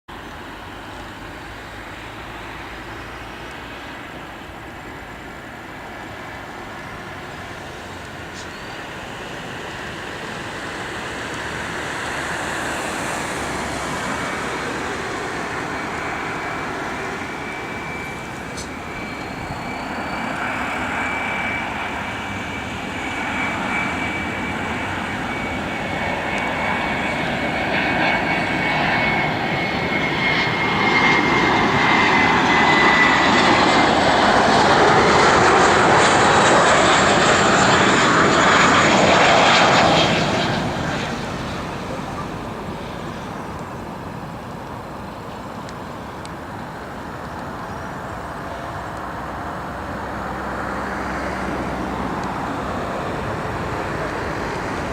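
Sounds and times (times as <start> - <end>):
high steady jet whine: 0.1 - 54.9
jet engine roar: 0.1 - 54.9.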